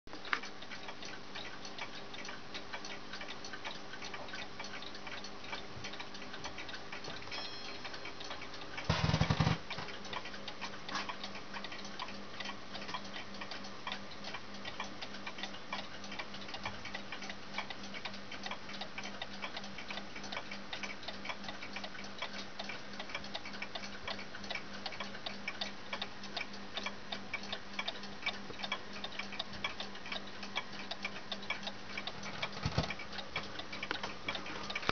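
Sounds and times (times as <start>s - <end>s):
cuckoo clock ticking: 0.2s - 34.9s.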